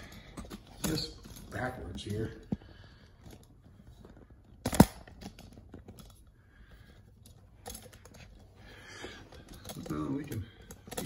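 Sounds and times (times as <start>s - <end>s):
light handling sounds: 0.0s - 11.0s.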